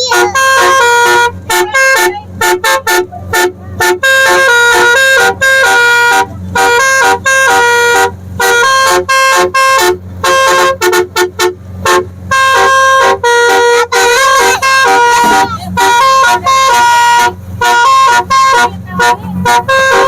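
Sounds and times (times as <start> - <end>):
musical horn playing a tune: 0.0 - 20.0.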